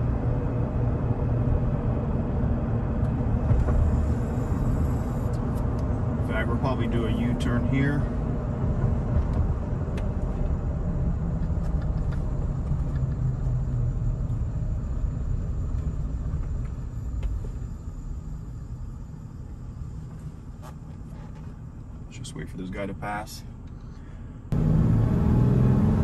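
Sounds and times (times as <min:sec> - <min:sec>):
in-cab engine and road rumble: 0:00.0 - 0:26.0.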